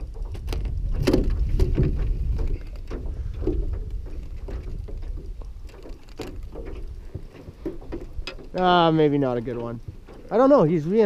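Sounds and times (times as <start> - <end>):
water lapping against boat hull: 0.0 - 11.0
wind rumble on microphone: 0.0 - 11.0.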